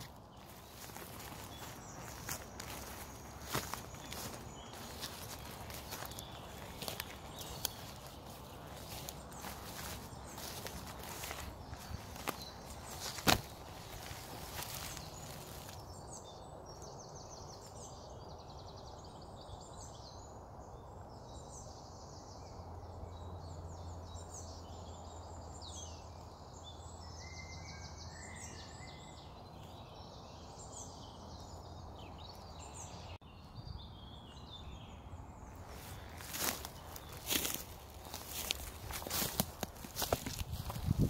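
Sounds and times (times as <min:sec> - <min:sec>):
birds singing: 0:00.0 - 0:41.0.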